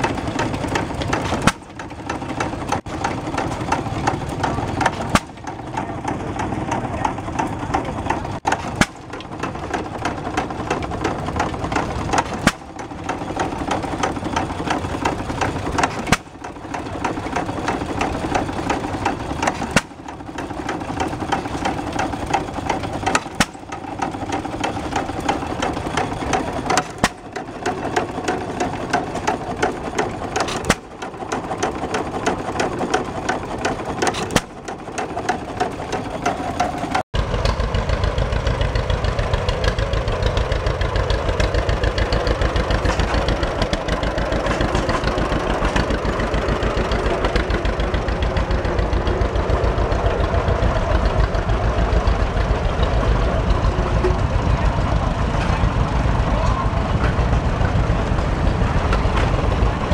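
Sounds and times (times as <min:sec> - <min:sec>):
stationary engine bangs and ticking: 0:00.0 - 0:59.9
tractor engine low rhythmic beat: 0:00.0 - 0:59.9.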